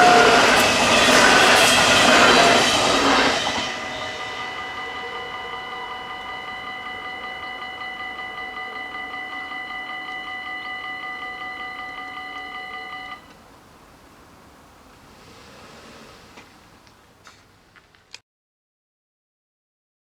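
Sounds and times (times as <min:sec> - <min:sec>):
level-crossing warning bells: 0:00.0 - 0:17.8.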